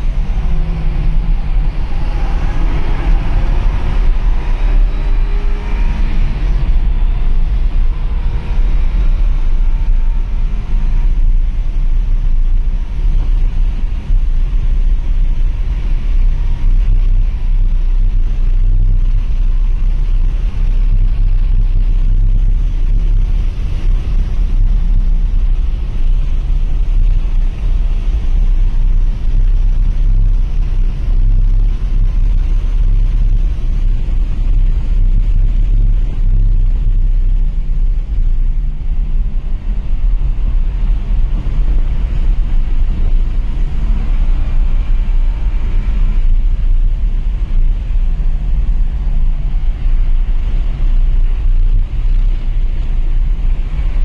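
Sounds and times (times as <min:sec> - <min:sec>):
car cabin road and wind rumble: 0:00.0 - 0:54.0.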